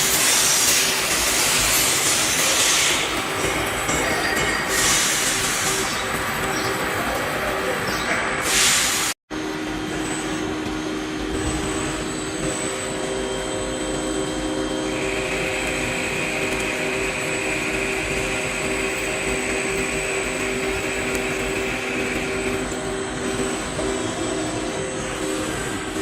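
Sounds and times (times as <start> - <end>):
high cutting whine: 0.0 - 26.0
machining equipment humming: 0.0 - 26.0.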